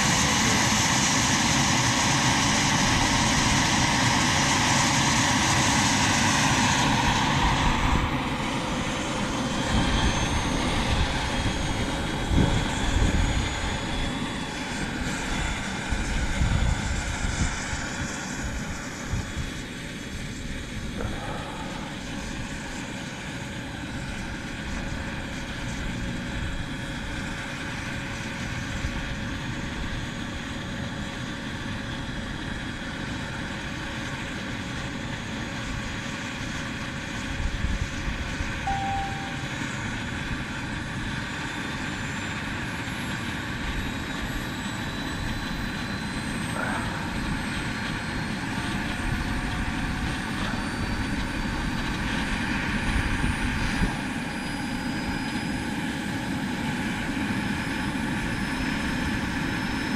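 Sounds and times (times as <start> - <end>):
model helicopter turbine whine: 0.0 - 59.9.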